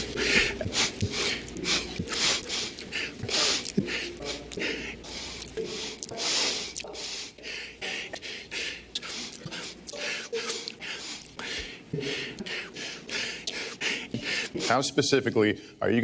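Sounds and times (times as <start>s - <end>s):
man sniffling and breathing heavily: 0.0s - 14.8s.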